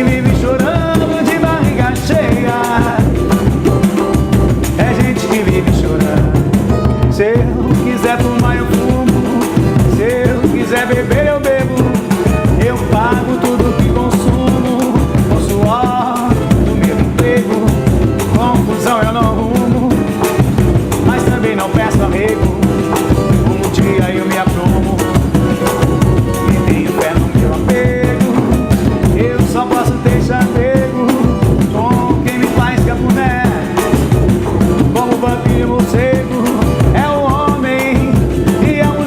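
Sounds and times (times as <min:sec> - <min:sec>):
drums and percussion beat: 0:00.0 - 0:39.0.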